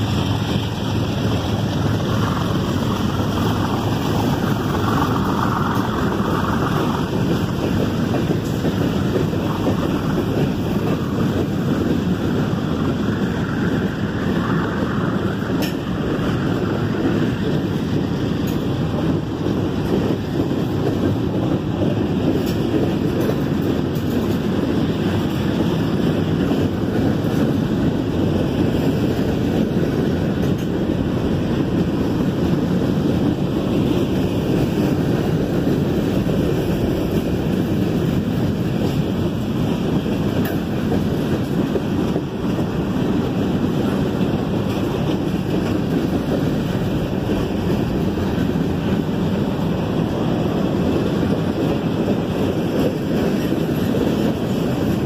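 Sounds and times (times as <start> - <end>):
freight train cars rolling past: 0.0 - 55.0.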